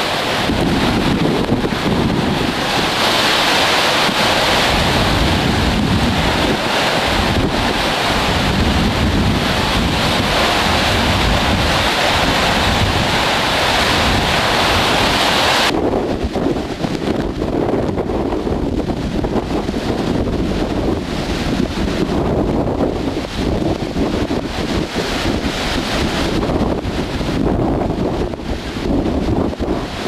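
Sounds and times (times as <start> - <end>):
strong wind through trees: 0.0 - 30.0
wind buffeting microphone: 0.0 - 30.0.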